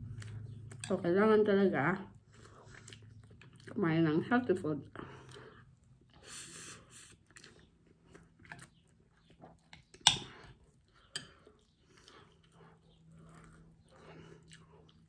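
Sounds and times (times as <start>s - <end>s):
chewing rice: 0.0s - 1.0s, 2.2s - 3.8s, 4.9s - 15.0s.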